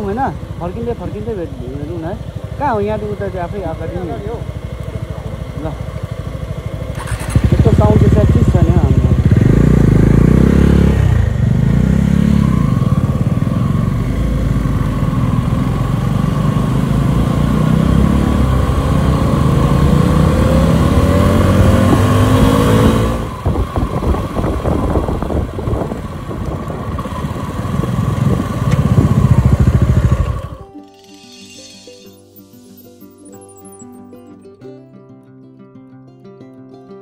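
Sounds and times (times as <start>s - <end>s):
motorcycle engine accelerating: 0.0s - 30.7s.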